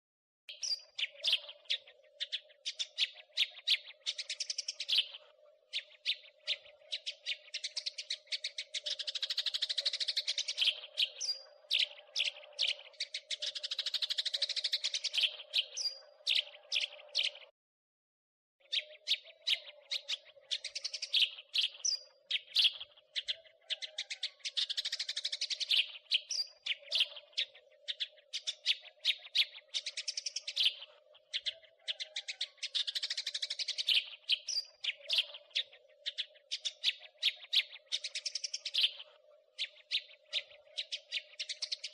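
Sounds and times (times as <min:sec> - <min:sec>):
sparrow chirping: 0:00.5 - 0:17.5, 0:18.6 - 0:41.9.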